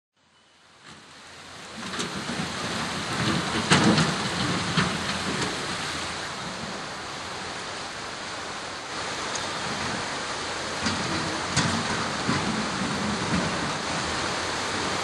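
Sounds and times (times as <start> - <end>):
floodwater rushing: 0.6 - 15.0.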